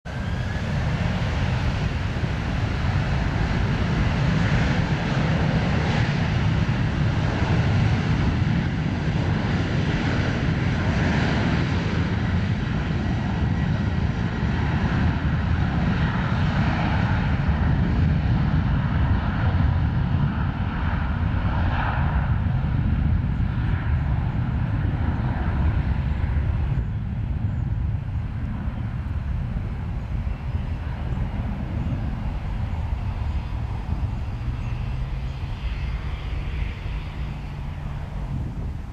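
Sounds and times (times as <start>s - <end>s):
jet engines at takeoff power: 0.0s - 38.9s.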